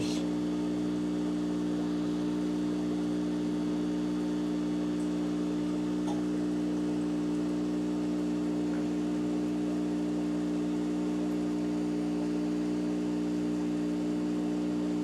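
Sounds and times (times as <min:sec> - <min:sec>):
steady hum with light hiss: 0:00.0 - 0:15.0.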